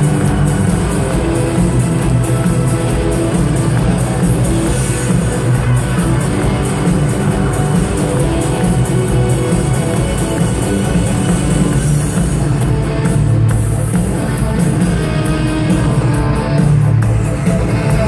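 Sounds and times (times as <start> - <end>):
drums: 0.0 - 18.0
electric guitar: 0.0 - 18.0
live rock band playing: 0.0 - 18.0.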